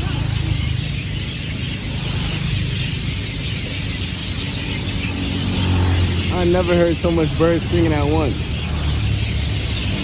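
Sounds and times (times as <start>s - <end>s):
chorus of birds singing: 0.0s - 10.0s.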